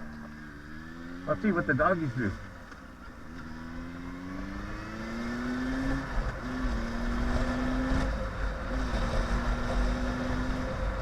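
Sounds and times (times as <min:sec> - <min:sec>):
low wind rumble: 0:00.0 - 0:11.0
motorcycle engine accelerating: 0:00.0 - 0:11.0.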